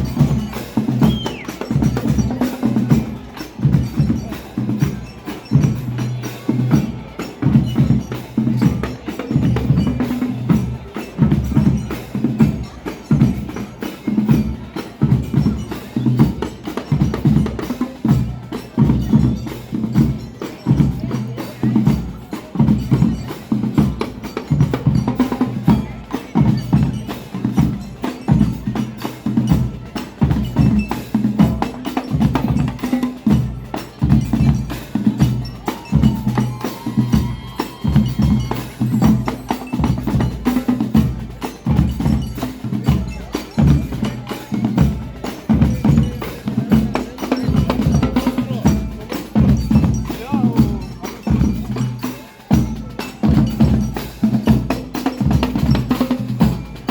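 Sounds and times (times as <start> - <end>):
bass and snare drums: 0.0 - 56.9.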